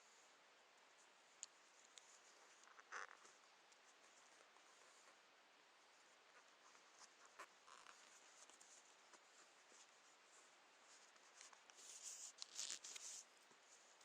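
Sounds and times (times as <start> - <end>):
faint hiss: 0.0 - 14.0
soft scratching and rustling: 0.0 - 14.0.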